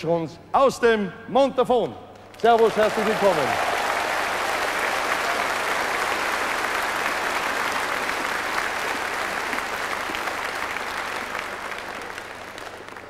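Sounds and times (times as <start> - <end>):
audience applauding: 2.3 - 13.0.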